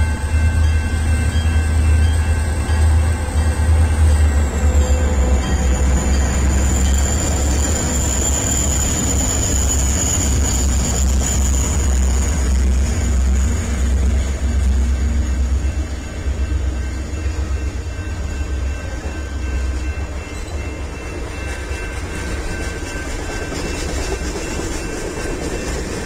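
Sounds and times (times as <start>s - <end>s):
diesel locomotive rumble: 0.0s - 26.0s
train cars clattering: 0.0s - 26.0s.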